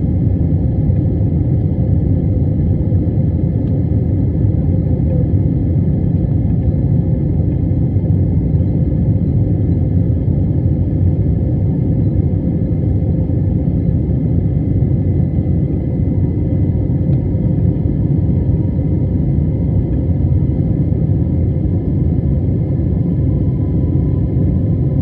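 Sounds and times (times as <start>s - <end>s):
faint engine whine: 0.0s - 25.0s
jet engines rumbling: 0.0s - 25.0s.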